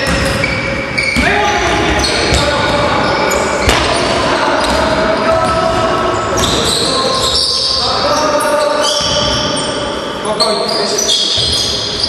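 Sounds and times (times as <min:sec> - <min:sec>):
sneakers squeaking: 0:00.0 - 0:12.0.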